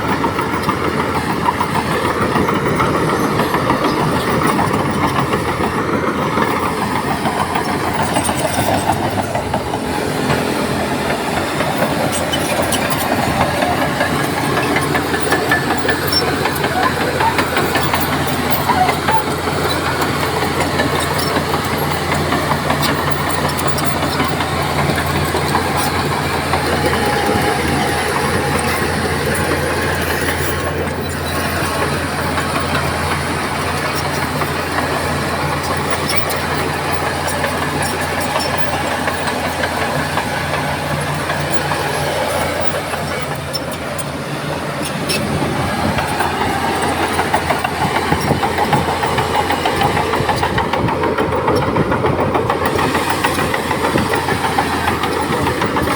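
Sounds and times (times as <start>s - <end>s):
heavy diesel machinery engine: 0.0s - 55.9s
machinery clatter: 0.0s - 55.9s.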